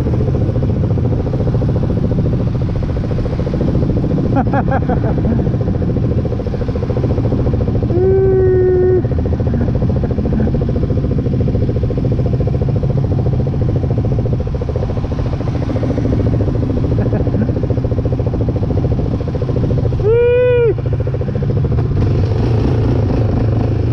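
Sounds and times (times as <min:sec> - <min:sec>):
off-road vehicle engine running: 0:00.0 - 0:23.9.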